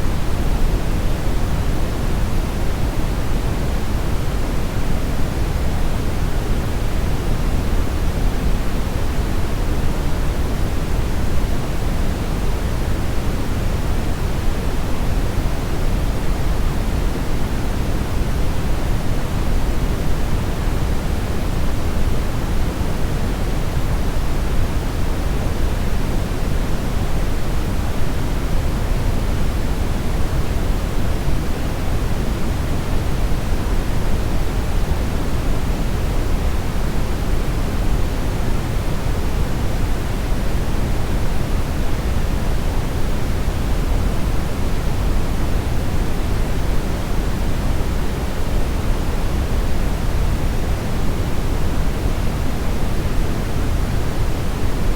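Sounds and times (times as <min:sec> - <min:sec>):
steady brown noise hiss: 0:00.0 - 0:54.9.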